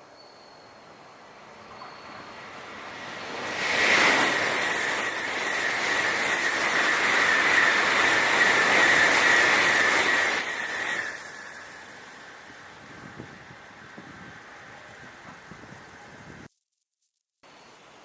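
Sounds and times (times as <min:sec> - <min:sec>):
high-speed train passing: 0:00.0 - 0:16.5.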